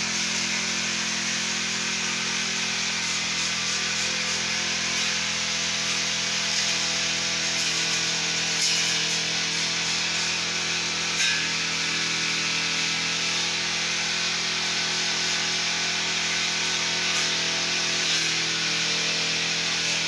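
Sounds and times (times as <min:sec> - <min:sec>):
brush cutter engine cutting grass: 0:00.0 - 0:20.0.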